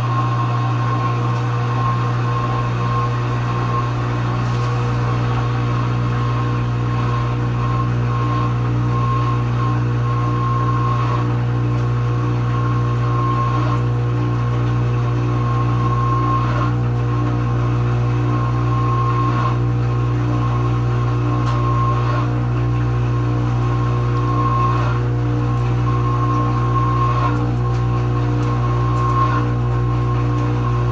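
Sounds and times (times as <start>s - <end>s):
dishwasher pump motor humming: 0.0s - 30.9s.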